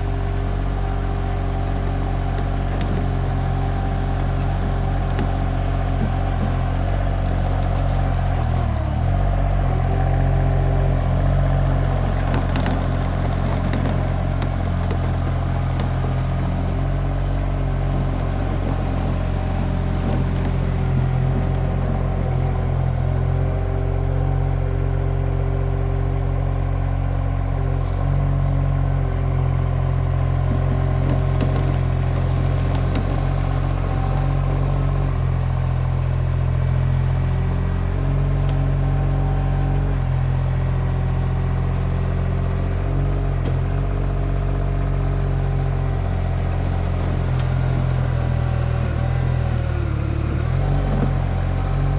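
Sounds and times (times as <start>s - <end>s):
skid steer engine running: 0.0s - 51.9s.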